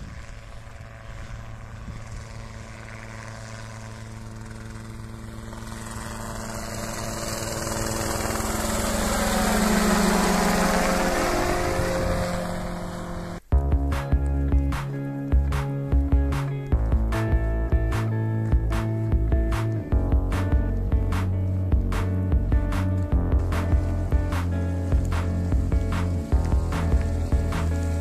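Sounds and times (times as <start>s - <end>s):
helicopter flying by: 0.0s - 28.0s.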